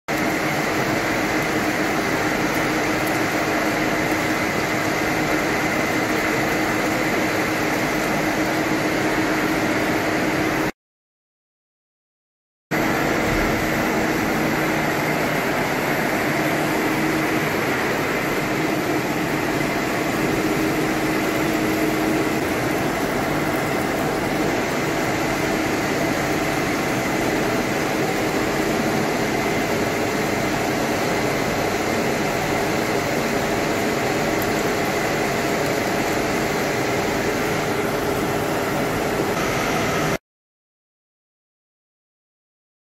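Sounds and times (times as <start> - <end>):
coolant jets pouring: 0.1 - 10.6, 12.8 - 40.2
machine hum with high whine: 0.1 - 10.7, 12.7 - 40.2.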